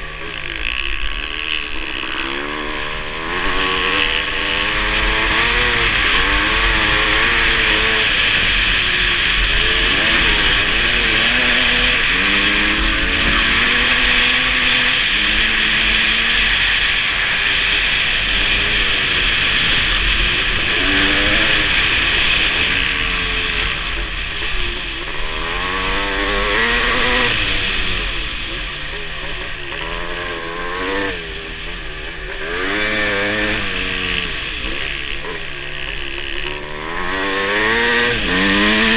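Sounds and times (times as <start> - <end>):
two-stroke engine revving hard: 0.0 - 38.9.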